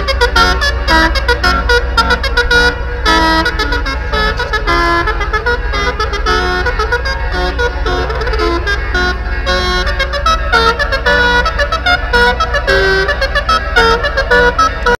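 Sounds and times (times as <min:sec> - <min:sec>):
ship horns playing chords: 0:00.0 - 0:15.0.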